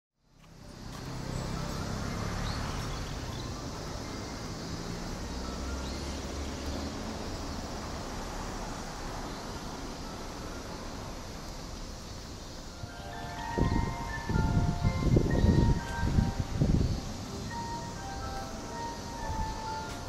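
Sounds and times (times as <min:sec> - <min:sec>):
steady outdoor noise: 0:00.2 - 0:20.0
low vehicle rumble: 0:00.5 - 0:20.0.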